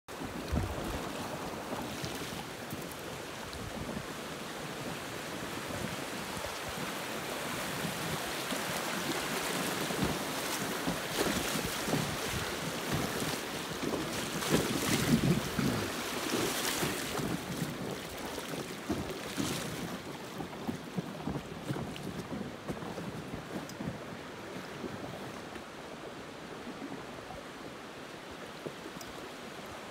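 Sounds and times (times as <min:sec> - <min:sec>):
wind on microphone: 0:00.1 - 0:27.8
river water rushing and splashing: 0:00.1 - 0:29.9.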